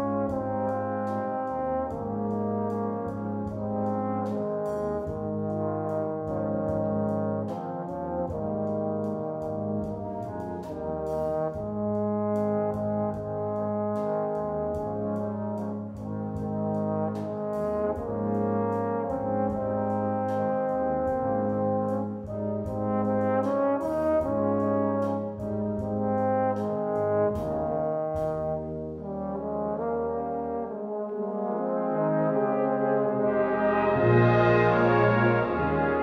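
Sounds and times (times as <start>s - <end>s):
brass ensemble playing chords: 0.0s - 36.0s.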